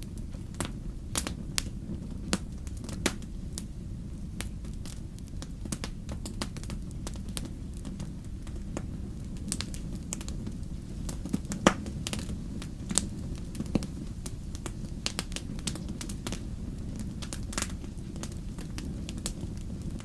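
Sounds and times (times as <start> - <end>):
fire crackles and pops: 0.0 - 20.0
low rumble of burning fire: 0.0 - 20.0.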